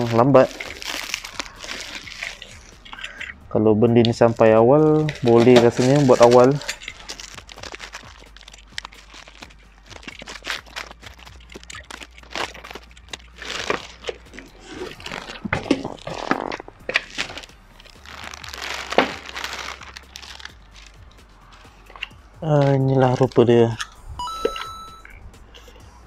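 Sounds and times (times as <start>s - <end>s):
plastic wrapping crinkling: 0.0s - 25.7s.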